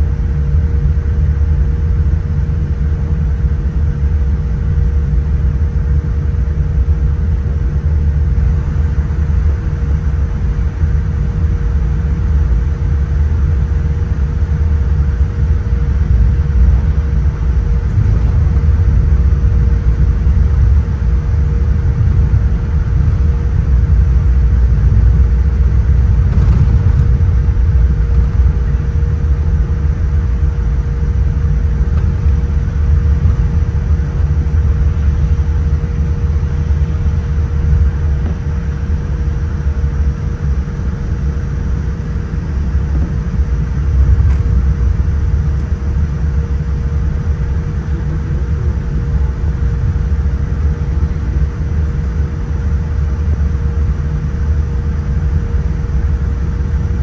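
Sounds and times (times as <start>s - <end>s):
aircraft engines rumbling: 0.0s - 57.0s
faint constant hum: 0.0s - 57.0s.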